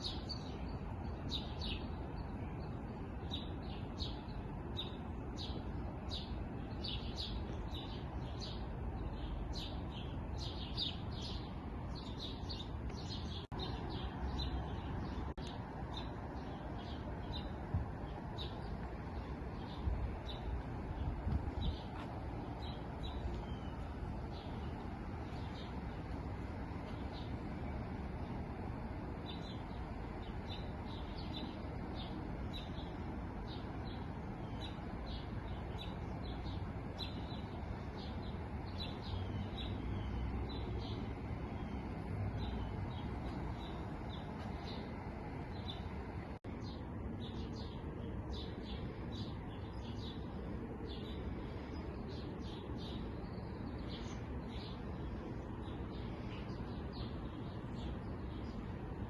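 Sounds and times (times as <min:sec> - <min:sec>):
songbirds chirping: 0:00.0 - 0:59.0
steady background hiss: 0:00.0 - 0:59.0.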